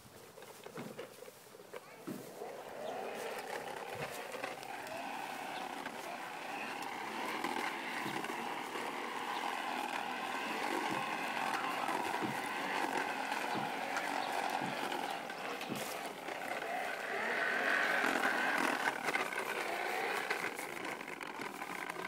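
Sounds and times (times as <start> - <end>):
plastic wheels clicking and rattling: 0.3 - 22.0
toy motor whirring hum: 2.0 - 22.0.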